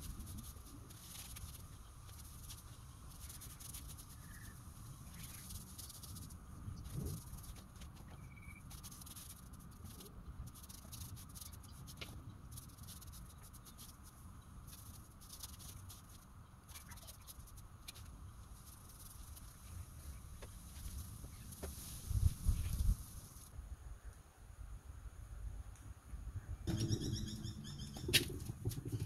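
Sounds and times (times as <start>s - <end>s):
paintbrush strokes on wood: 0.0s - 23.5s.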